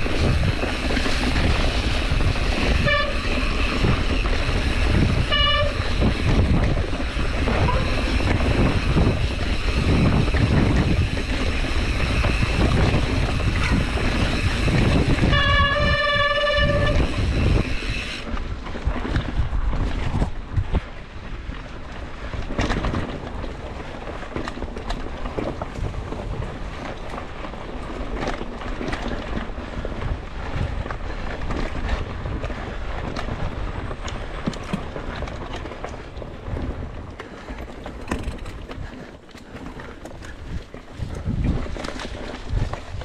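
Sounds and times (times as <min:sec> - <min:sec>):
bike knocking and rattling: 0:00.0 - 0:43.0
bike tyres rolling on dirt: 0:00.0 - 0:43.0
wind buffeting microphone: 0:00.0 - 0:43.0.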